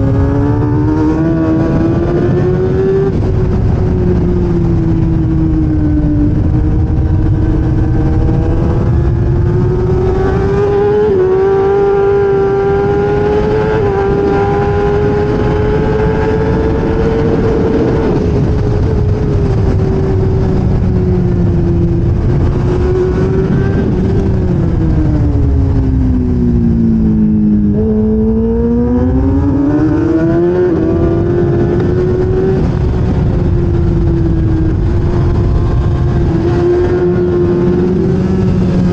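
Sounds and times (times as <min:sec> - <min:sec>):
motorcycle engine at high revs: 0:00.0 - 0:38.9
wind noise: 0:00.0 - 0:38.9.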